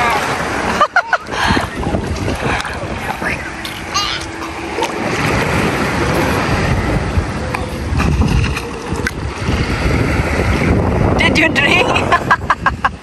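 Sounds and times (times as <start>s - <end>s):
small waves lapping: 0.0s - 13.0s
wind buffeting microphone: 0.0s - 13.0s.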